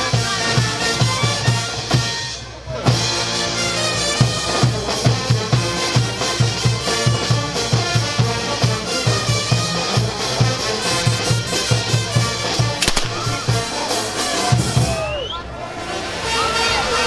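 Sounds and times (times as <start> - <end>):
brass band music: 0.1 - 14.8.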